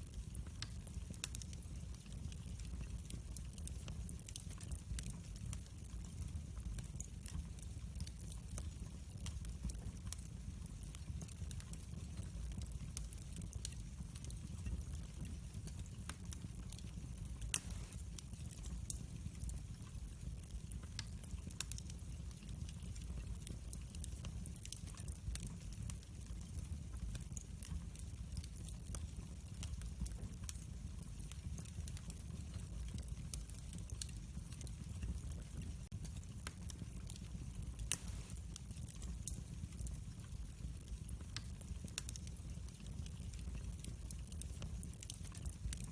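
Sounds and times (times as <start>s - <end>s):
fire crackling and popping: 0.0s - 45.9s
low rumble of flames: 0.0s - 45.9s.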